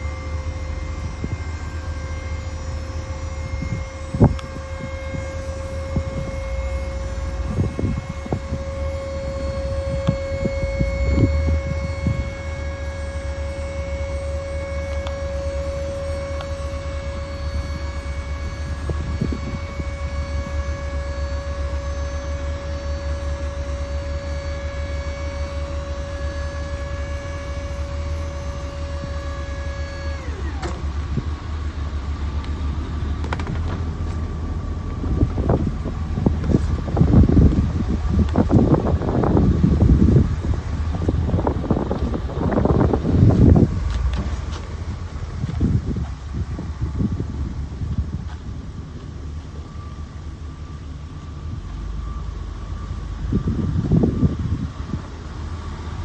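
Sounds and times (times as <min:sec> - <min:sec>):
mechanical whine: 0:00.0 - 0:56.0
truck engine rumble: 0:00.0 - 0:56.0.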